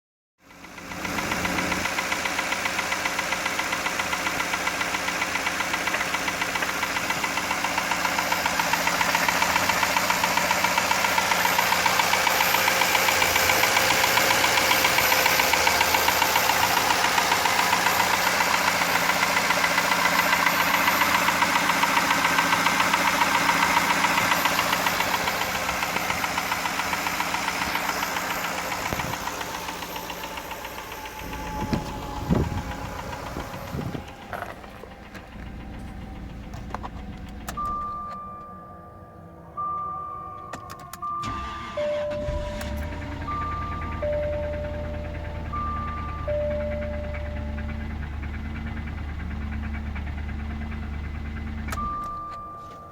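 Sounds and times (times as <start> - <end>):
engine with rhythmic knock: 0.4 - 52.9.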